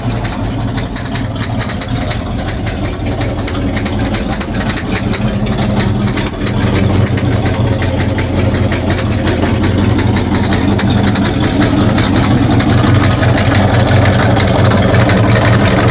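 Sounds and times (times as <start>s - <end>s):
boat engine idling: 0.0s - 15.9s.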